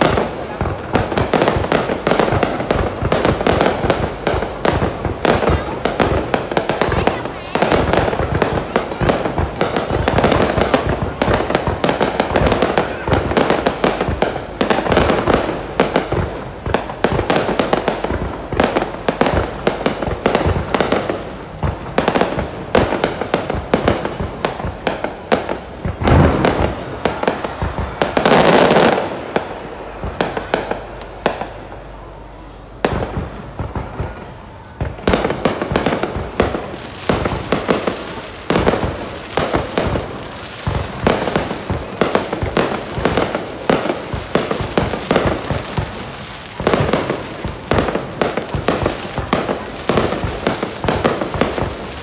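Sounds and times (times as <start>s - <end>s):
fireworks bangs: 0.0s - 52.0s
fireworks crackling pops: 0.0s - 52.0s.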